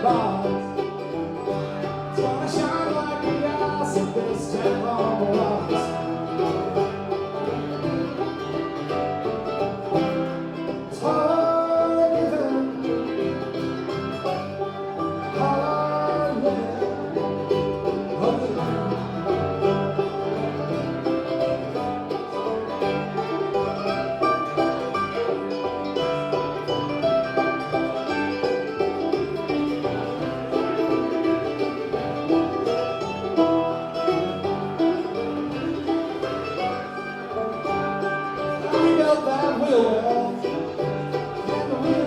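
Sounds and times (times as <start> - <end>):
banjo picking: 0.0 - 42.0
bluegrass band playing: 0.0 - 42.0
guitar picking: 0.0 - 42.0.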